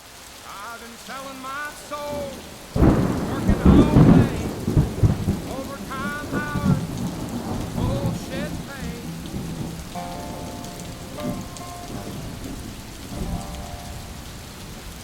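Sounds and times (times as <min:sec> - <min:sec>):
rain falling: 0:00.0 - 0:15.0
thunder rumbling: 0:01.0 - 0:15.0.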